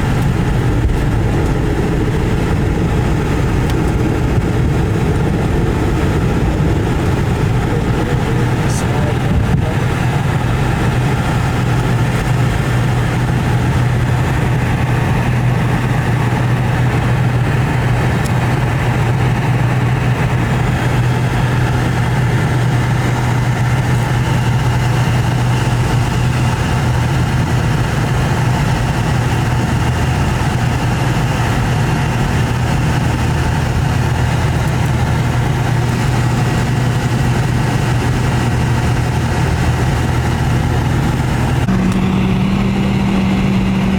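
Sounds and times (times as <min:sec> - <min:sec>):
aircraft cabin engine drone: 0:00.0 - 0:43.9.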